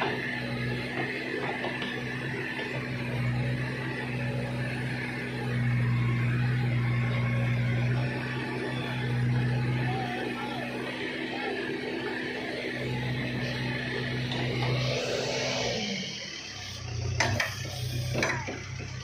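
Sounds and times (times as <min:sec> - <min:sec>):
backhoe diesel engine running: 0:00.0 - 0:19.0.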